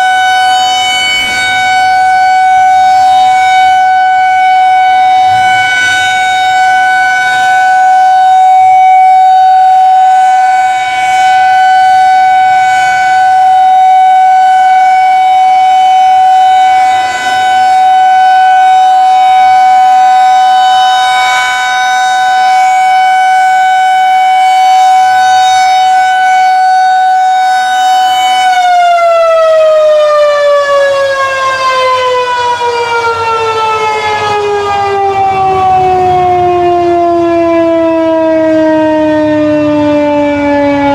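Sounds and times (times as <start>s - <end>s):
rotating warning siren: 0.0s - 40.9s.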